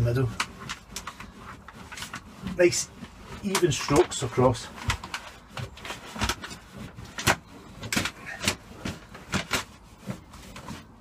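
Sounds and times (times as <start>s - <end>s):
cloth rubbing on sound-deadening sheet: 0.0s - 11.0s.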